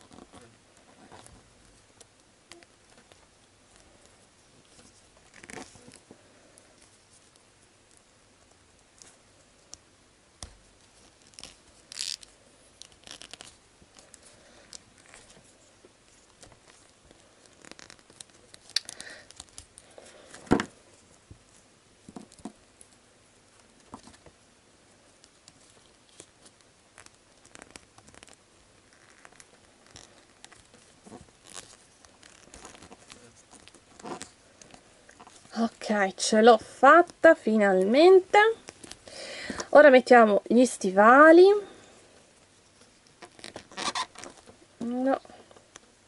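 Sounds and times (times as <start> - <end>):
plastic doll being handled: 0.0 - 46.0.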